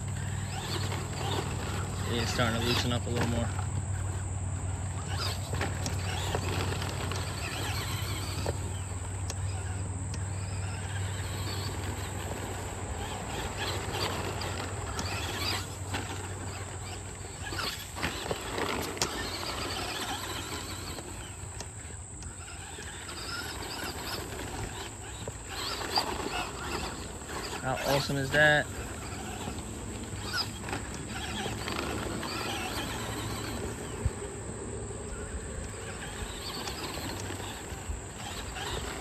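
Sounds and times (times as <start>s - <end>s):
rc truck motor whining: 0.0s - 39.0s
tyres scrabbling on dirt: 0.0s - 39.0s.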